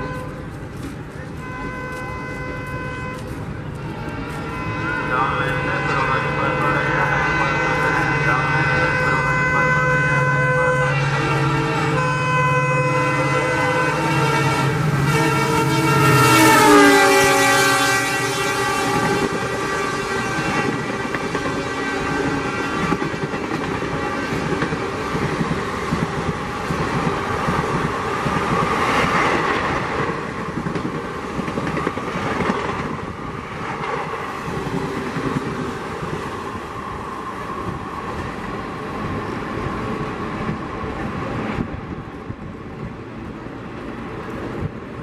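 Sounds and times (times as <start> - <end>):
train coaches rushing past: 0.0 - 45.0.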